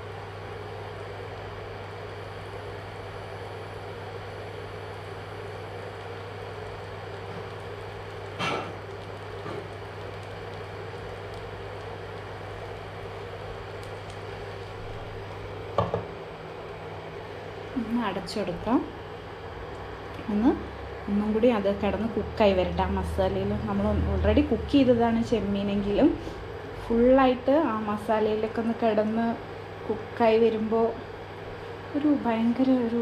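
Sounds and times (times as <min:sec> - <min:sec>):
cooktop hum and fan noise: 0:00.0 - 0:33.0
faint sizzling in pan: 0:00.0 - 0:33.0.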